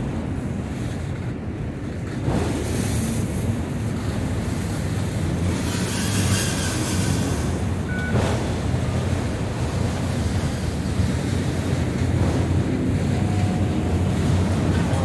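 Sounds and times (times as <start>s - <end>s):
train wheels rumbling on rails: 0.0s - 15.0s
wind noise on microphone: 0.0s - 15.0s.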